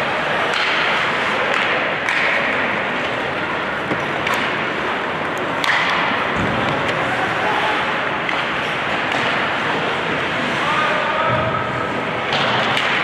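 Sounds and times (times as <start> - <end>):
hockey sticks and puck clacks: 0.0 - 10.6, 11.2 - 13.0.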